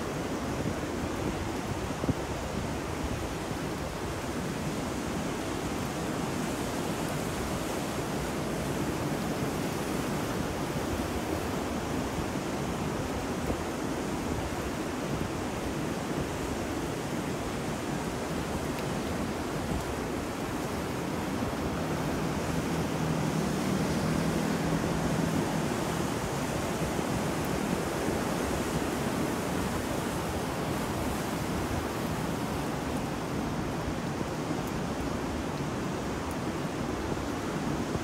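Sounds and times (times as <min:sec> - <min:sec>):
ocean surf: 0:00.0 - 0:38.0
wind: 0:00.0 - 0:38.0.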